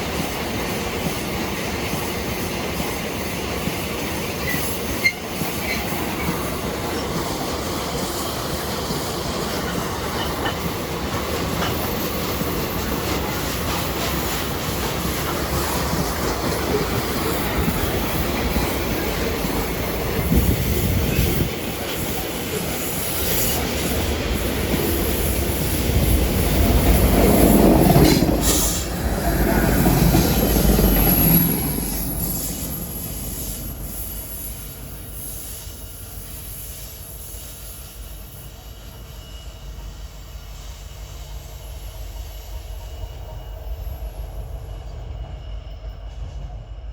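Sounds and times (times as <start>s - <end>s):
deep train rumble: 0.0s - 46.9s
train wheels on rails: 0.0s - 46.9s.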